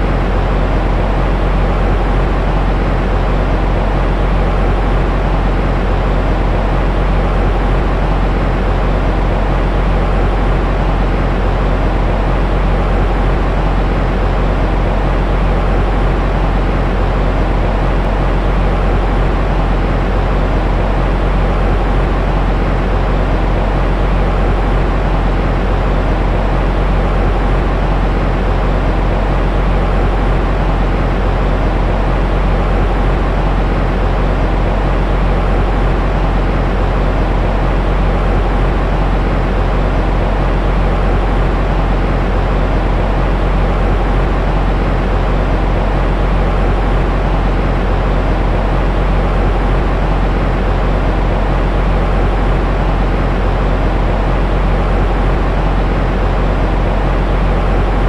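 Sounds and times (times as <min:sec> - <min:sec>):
low rumbling white noise: 0:00.0 - 0:58.0.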